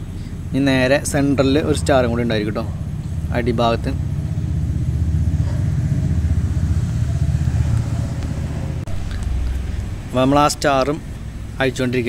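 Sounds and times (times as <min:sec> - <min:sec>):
low engine rumble with flutter: 0:00.0 - 0:12.0.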